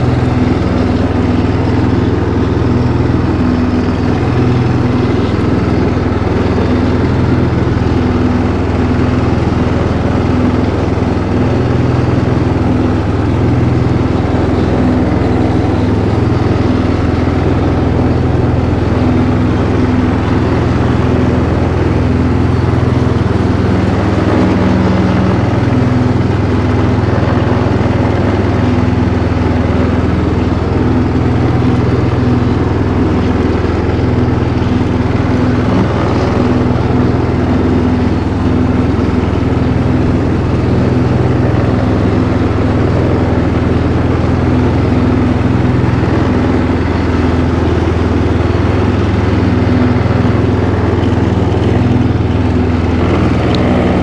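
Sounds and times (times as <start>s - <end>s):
riding lawn mower engine: 0.0s - 54.0s.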